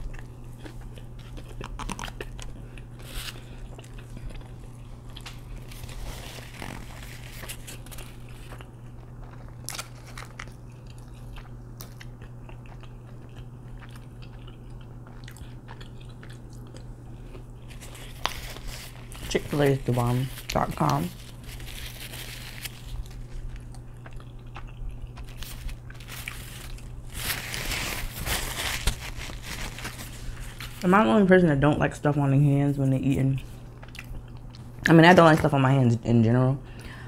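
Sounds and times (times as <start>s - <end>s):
chewing and crunching food: 0.0s - 31.0s, 33.2s - 35.6s
steady low hum: 0.0s - 37.0s.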